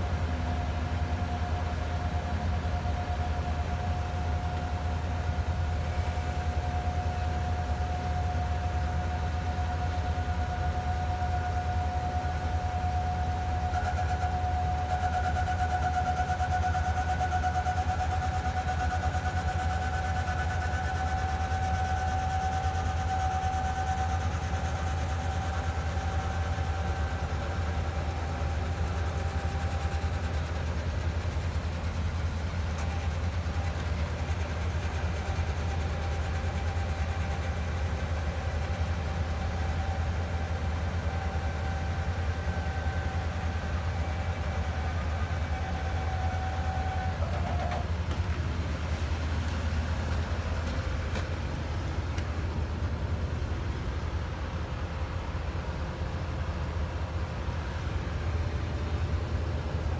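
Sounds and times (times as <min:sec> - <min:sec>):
high whine: 0:00.0 - 0:59.9.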